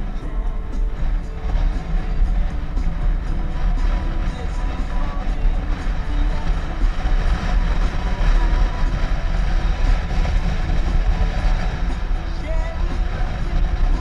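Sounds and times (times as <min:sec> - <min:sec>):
faint music: 0:00.0 - 0:14.0
motorcycle engine rumble: 0:00.0 - 0:14.0
wind: 0:00.0 - 0:14.0.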